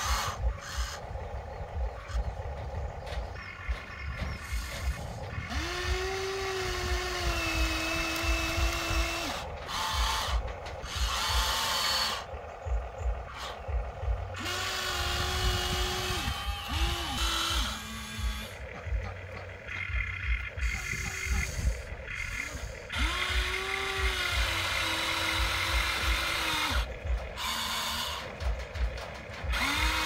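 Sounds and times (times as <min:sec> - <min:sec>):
toy excavator motors whining: 0:00.0 - 0:30.0.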